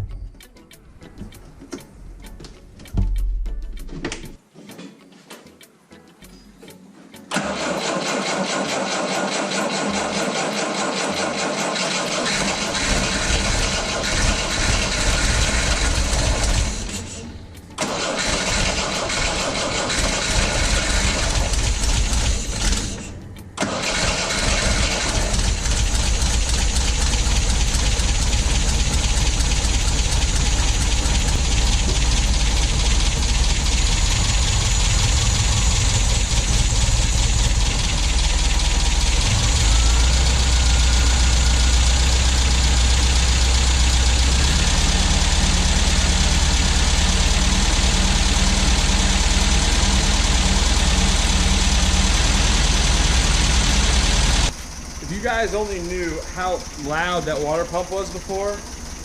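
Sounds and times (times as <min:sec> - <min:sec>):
car engine idling: 0:07.3 - 0:59.0.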